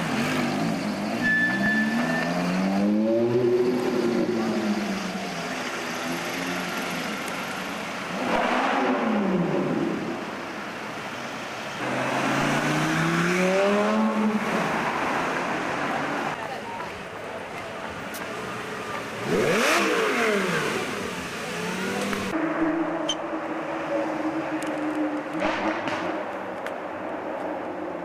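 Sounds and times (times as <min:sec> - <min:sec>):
cars accelerating and passing: 0:00.0 - 0:16.4, 0:17.8 - 0:28.0.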